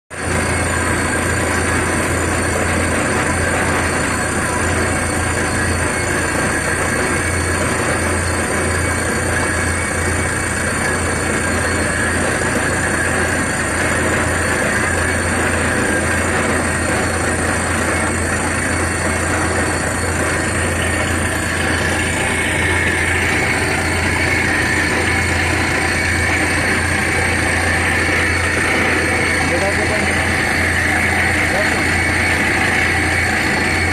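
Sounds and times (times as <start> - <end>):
drilling rig engine: 0.1 - 33.9.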